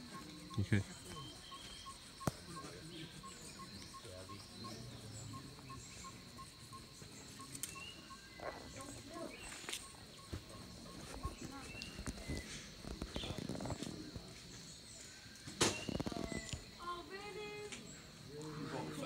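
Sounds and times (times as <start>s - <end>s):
insect chirping: 0.0s - 19.0s
insect chorus whine: 0.0s - 19.0s.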